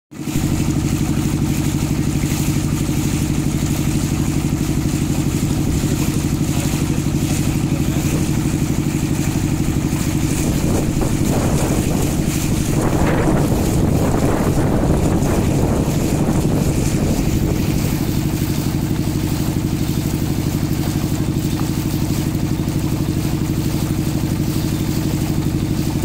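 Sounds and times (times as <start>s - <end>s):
motorboat engine throbbing: 0.1s - 26.0s
water swishing: 0.1s - 26.0s.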